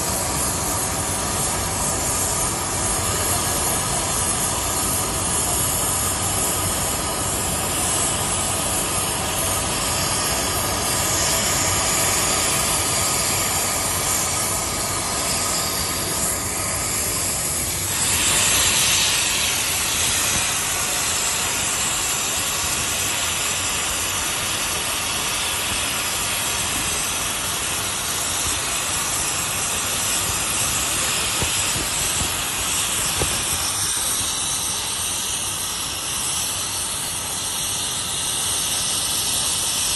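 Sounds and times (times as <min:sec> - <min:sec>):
plasma cutter hissing: 0:00.0 - 0:39.9.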